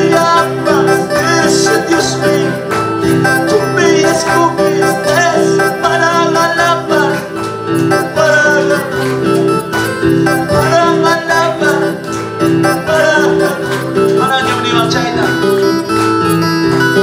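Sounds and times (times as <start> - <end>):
man singing into a microphone: 0.0 - 9.1, 10.3 - 15.4.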